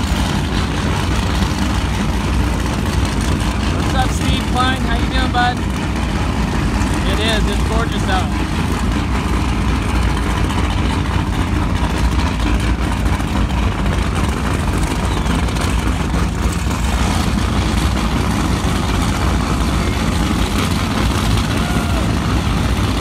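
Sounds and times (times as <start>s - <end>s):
powerboat engines idling: 0.0s - 23.0s.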